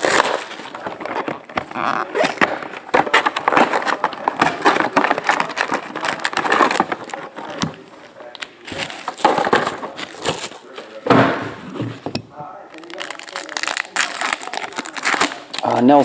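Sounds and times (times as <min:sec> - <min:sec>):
cardboard and foil rustling: 0:00.0 - 0:11.1, 0:12.6 - 0:16.0.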